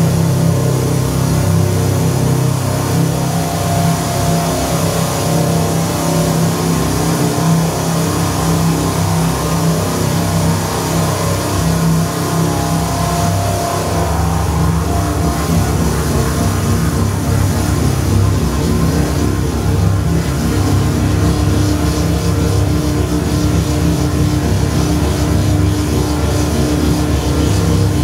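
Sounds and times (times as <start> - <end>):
deep rumble: 0.0 - 28.0
dense noisy texture: 0.0 - 28.0
loud low synthesizer drone: 0.0 - 28.0.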